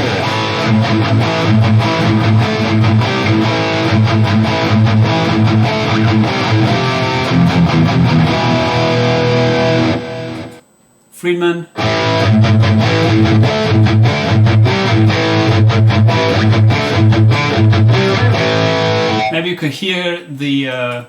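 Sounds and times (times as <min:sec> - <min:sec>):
distorted electric guitar riff: 0:00.0 - 0:10.6, 0:11.7 - 0:19.4
guitar chord ringing: 0:00.0 - 0:10.6, 0:11.8 - 0:19.3.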